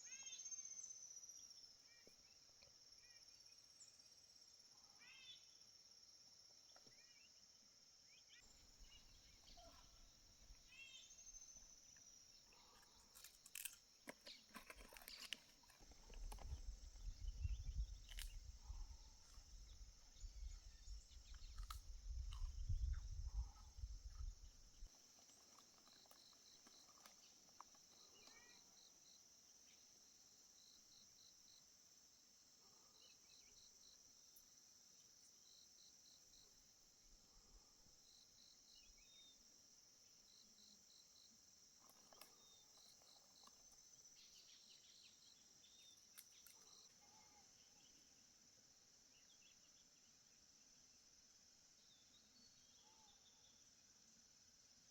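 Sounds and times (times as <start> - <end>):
crickets trilling: 8.1 - 52.8
insects buzzing: 8.1 - 52.8.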